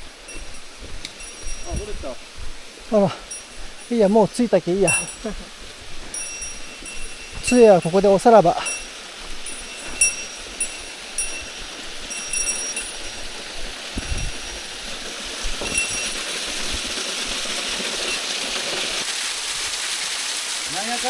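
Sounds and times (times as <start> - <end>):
light metallic jingles: 0.0 - 19.0
waterfall rushing: 0.0 - 21.0.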